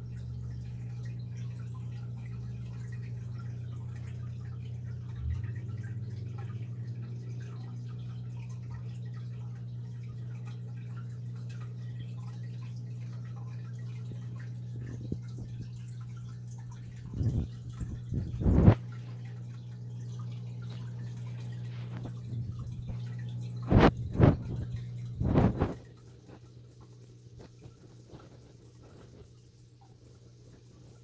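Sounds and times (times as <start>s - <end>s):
aquarium filter humming: 0.0s - 31.0s
water trickling and dripping: 0.0s - 31.0s.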